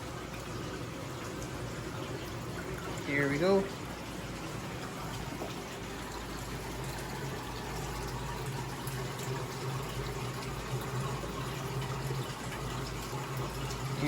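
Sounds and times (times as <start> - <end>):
low pump hum: 0.0 - 14.0
water rushing and trickling: 0.0 - 14.0.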